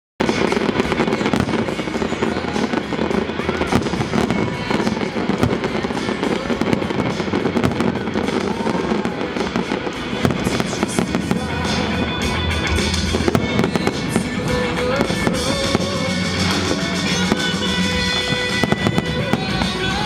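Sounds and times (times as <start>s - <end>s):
fireworks bangs and crackles: 0.2s - 20.0s
music playing: 0.2s - 20.0s.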